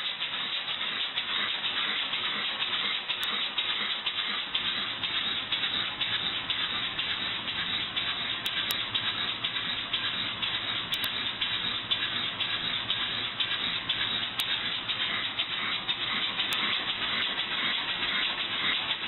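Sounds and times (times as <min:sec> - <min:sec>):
air engine exhaust puffing: 0:01.8 - 0:19.0.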